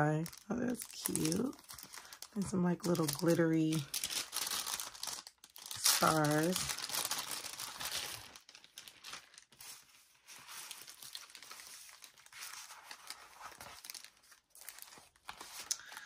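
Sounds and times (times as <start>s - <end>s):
plastic bag crinkling: 0.0s - 16.0s
paper sheets rustling: 1.0s - 16.0s.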